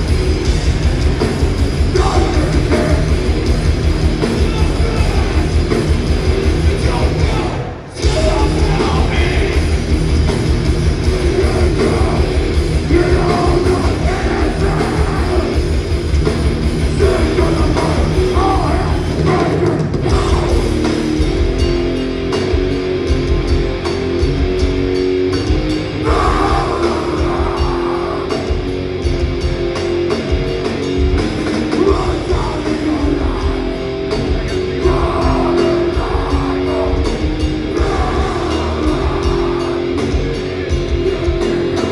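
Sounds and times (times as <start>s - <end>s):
distorted electric guitars: 0.0s - 41.9s
drums: 0.0s - 41.9s.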